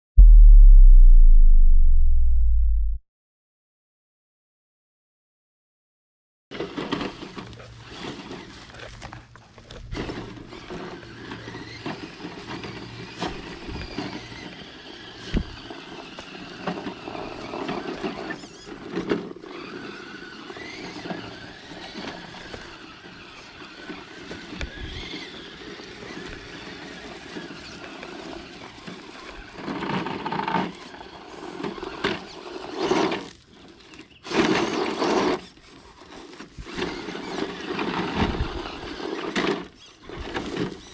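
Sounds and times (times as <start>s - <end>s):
toy truck electric motor whirring: 6.6s - 40.9s.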